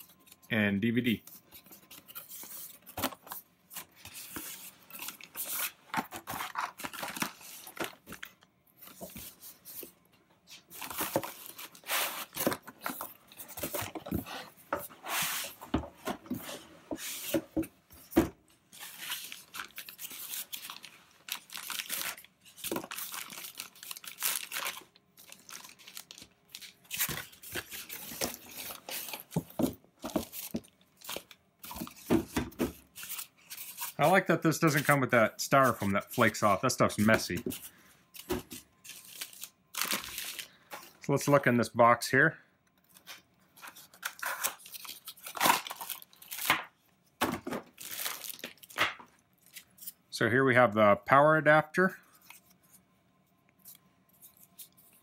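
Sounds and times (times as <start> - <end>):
packing pieces rustling and scraping: 1.3 - 41.1, 42.8 - 50.0.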